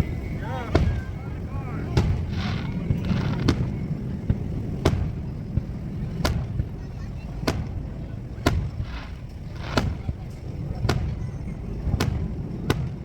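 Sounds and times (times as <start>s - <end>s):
fireworks bangs: 0.0s - 13.0s
steady low rumble: 0.0s - 13.0s.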